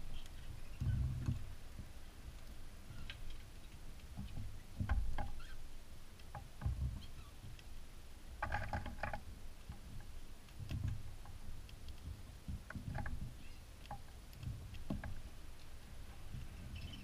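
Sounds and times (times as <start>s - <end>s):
birds pecking seed: 0.0s - 17.0s.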